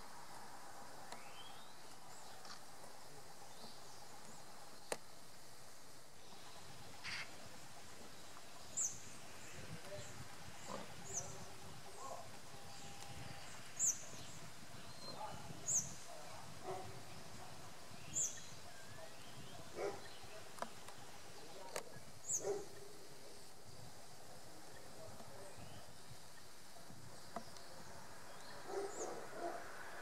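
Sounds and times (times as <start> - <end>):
outdoor hiss: 0.0 - 30.0.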